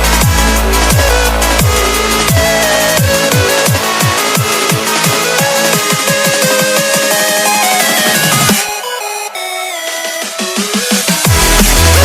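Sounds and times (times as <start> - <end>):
electronic music with fast drums: 0.0 - 12.0.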